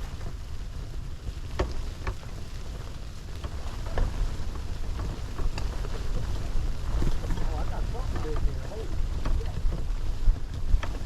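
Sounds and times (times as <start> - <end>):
wind buffeting microphone: 0.0 - 11.0
light knocks and ticks: 1.2 - 11.0.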